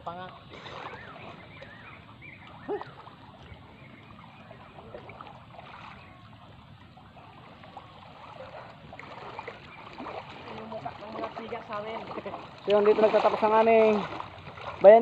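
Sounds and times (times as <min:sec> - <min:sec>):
water lapping and trickling: 0:00.0 - 0:15.0.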